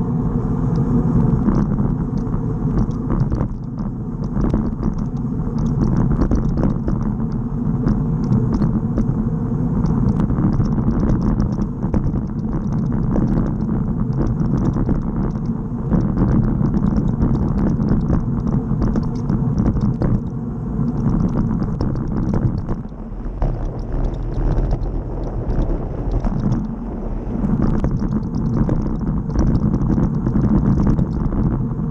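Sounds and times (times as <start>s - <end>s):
bike tyres rumbling on asphalt: 0.0s - 31.9s
bike rattles and clicks: 0.8s - 26.8s, 27.4s - 31.9s.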